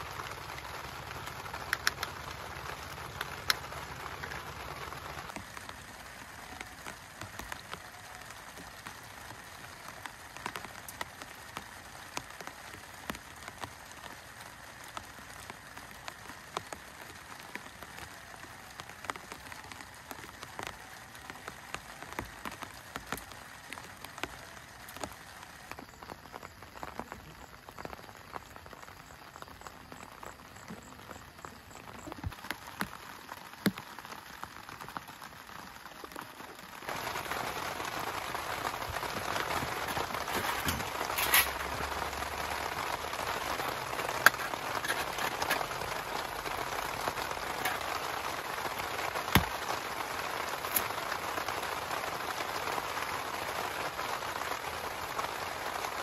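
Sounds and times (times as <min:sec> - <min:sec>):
rain hissing: 0:00.0 - 0:56.0
raindrops tapping on a surface: 0:00.0 - 0:56.0.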